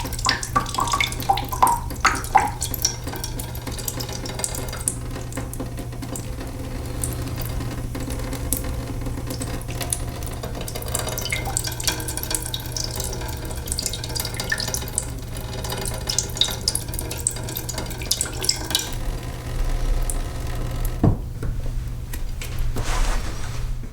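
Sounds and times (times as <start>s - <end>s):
water dripping and splashing: 0.0s - 21.0s
water trickling: 0.0s - 21.3s.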